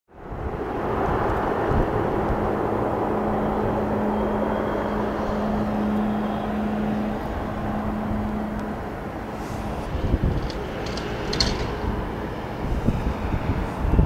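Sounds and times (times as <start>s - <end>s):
jet engines at taxi power: 0.1s - 14.0s.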